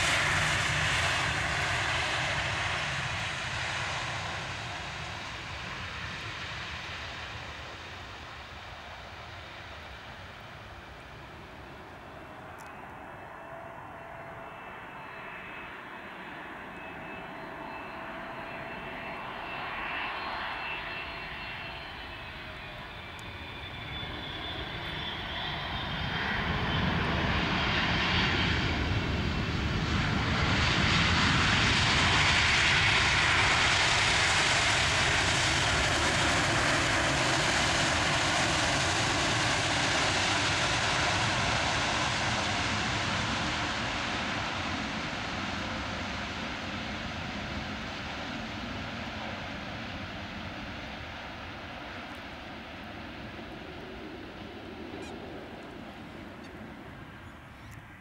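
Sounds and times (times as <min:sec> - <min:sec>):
jet engine reverse thrust roar: 0:00.0 - 0:58.0
jet engine whine: 0:00.0 - 0:58.0.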